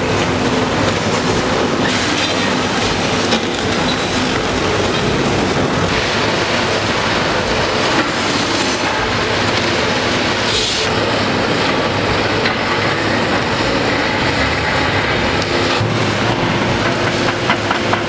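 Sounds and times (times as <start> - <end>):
excavator rumbling and grinding: 0.0 - 18.0.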